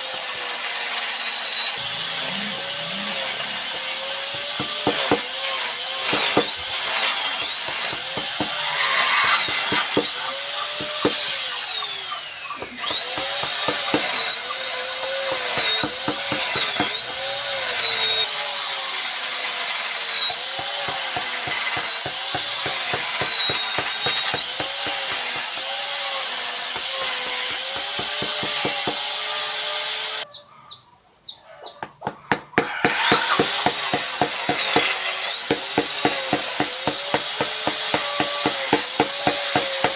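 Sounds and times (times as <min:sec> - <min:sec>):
electric carving tool whining: 0:00.0 - 0:30.3, 0:32.3 - 0:39.9.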